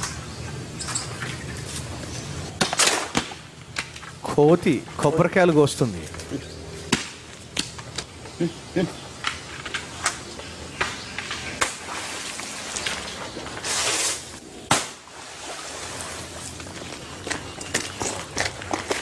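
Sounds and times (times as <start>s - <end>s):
palm fronds crackling and rustling: 0.0s - 19.0s.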